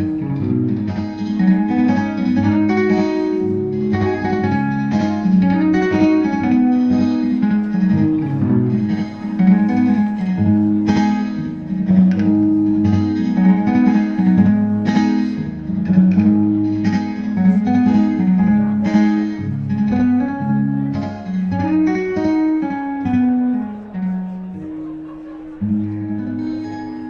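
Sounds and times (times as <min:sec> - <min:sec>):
guitar playing: 0:00.0 - 0:27.0.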